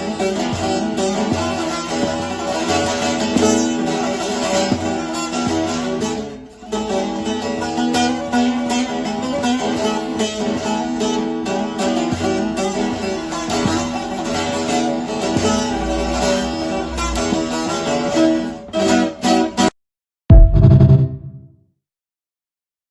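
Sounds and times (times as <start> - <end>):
plucked saz melody: 0.0 - 19.7, 20.3 - 21.4.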